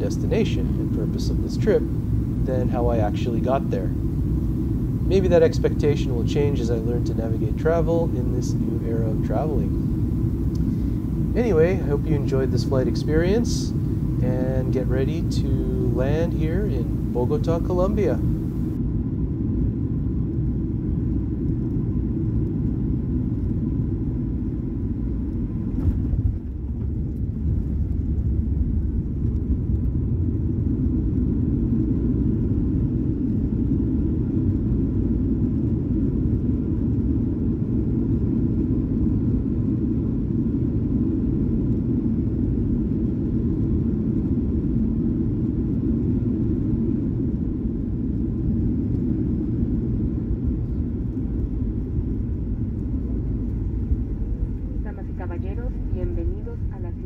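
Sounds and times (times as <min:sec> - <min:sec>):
airplane cabin low rumble: 0:00.0 - 0:57.0.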